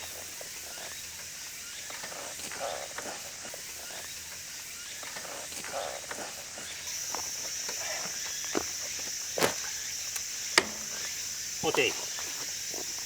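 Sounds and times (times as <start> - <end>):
high insect trill: 0.0 - 13.0
insects buzzing: 0.0 - 13.0.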